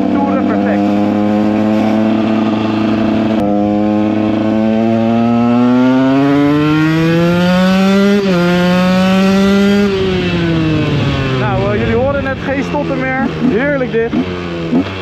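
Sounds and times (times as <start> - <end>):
two-stroke motorcycle engine revving: 0.0 - 15.0.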